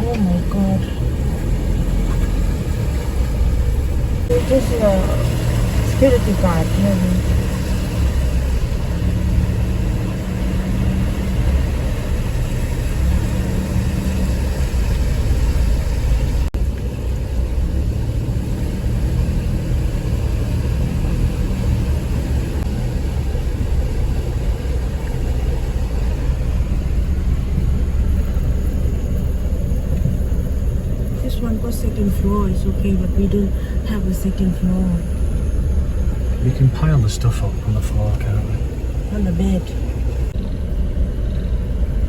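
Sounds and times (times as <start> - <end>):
vehicle driving rumble: 0.0 - 42.0.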